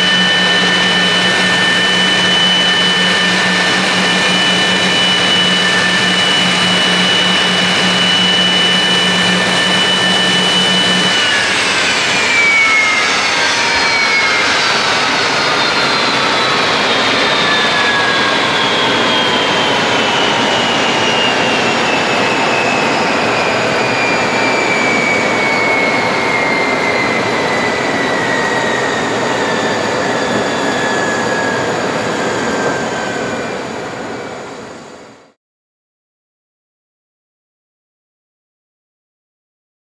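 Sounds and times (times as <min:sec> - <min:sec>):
jet engines whining and spinning down: 0:00.0 - 0:35.4.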